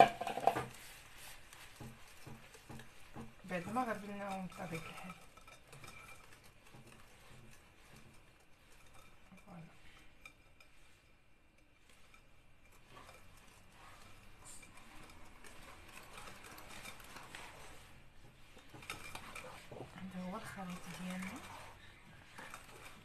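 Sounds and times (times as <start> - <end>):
whisk scraping glass bowl: 0.0 - 23.0.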